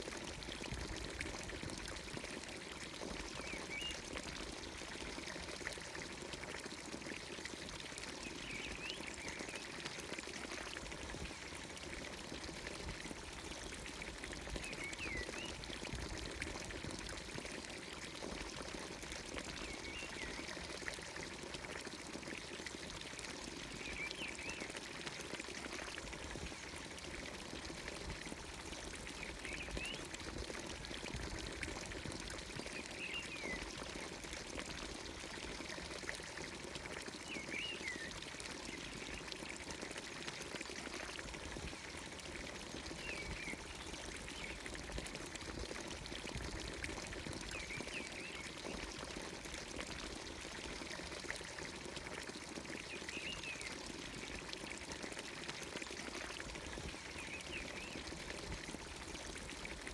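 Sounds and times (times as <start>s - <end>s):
fountain water pouring into trough: 0.0s - 59.9s.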